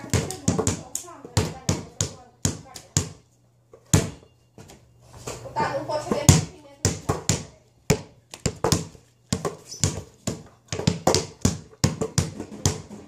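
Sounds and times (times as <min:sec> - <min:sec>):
basketball bouncing on indoor floor: 0:00.0 - 0:03.2, 0:03.9 - 0:04.3, 0:06.1 - 0:13.0.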